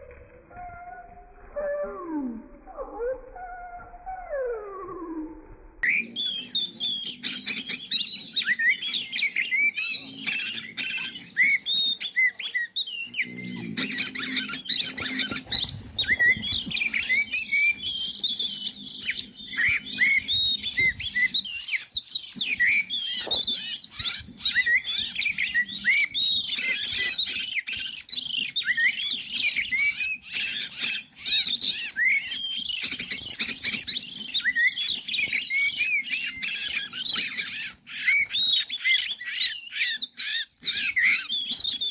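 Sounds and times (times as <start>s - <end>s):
bird whistling and chattering: 5.8s - 41.9s.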